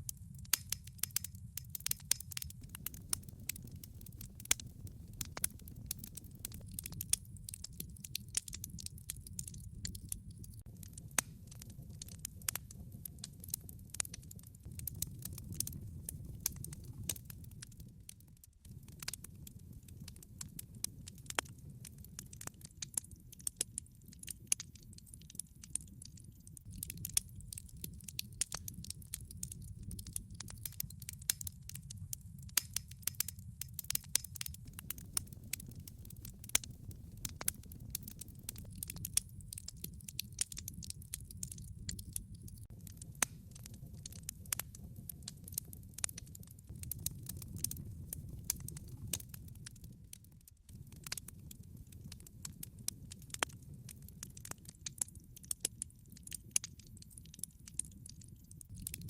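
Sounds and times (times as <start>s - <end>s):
wood log fire crackling: 0.0s - 59.0s.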